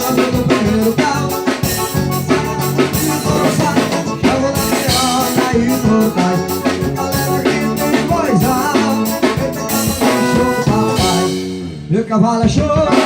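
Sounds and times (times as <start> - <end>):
band playing instrumental music: 0.0 - 13.0
people singing: 0.0 - 13.0
steady drum beat: 0.0 - 13.0.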